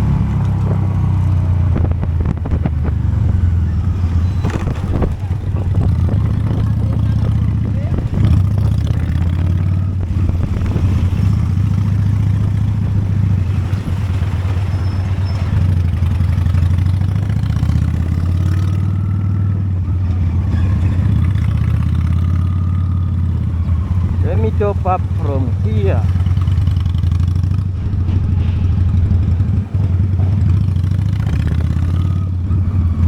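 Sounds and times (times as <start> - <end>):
motorcycle engine droning: 0.0 - 33.0.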